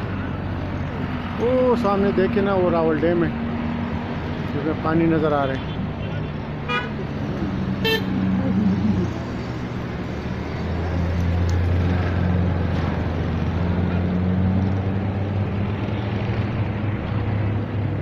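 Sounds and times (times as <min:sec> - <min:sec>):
outdoor background noise: 0:00.0 - 0:18.0
vehicle engine droning: 0:00.0 - 0:18.0.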